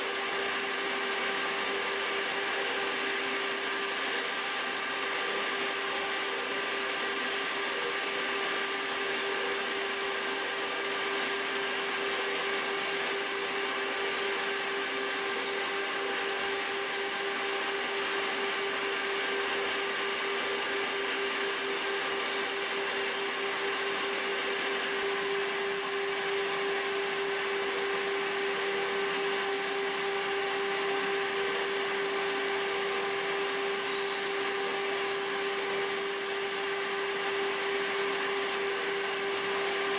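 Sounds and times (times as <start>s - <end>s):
router motor whine: 0.0s - 39.9s.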